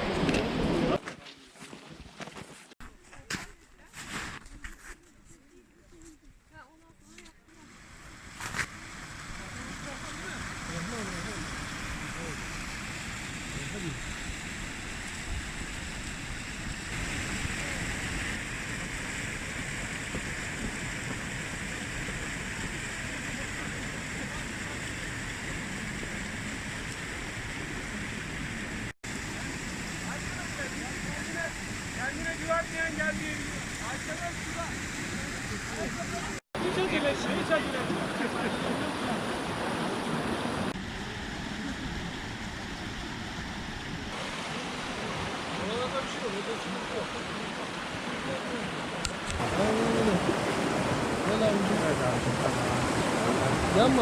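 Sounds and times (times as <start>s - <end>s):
stream water rushing: 7.6s - 54.0s.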